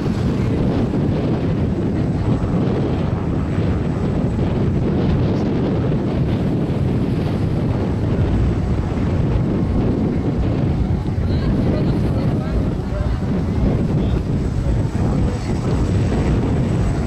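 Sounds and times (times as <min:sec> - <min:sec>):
turboprop engine running: 0:00.0 - 0:17.0
wind rumble on microphone: 0:00.0 - 0:17.0.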